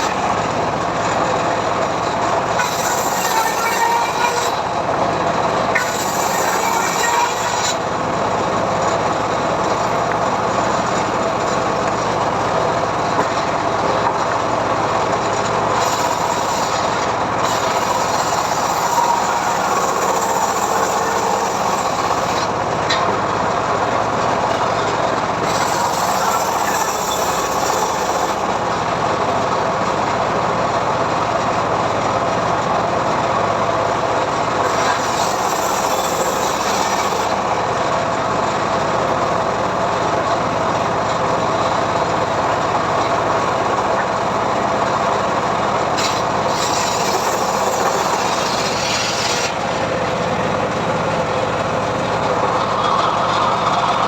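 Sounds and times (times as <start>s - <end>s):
sawmill cutting a log: 0.0s - 54.0s.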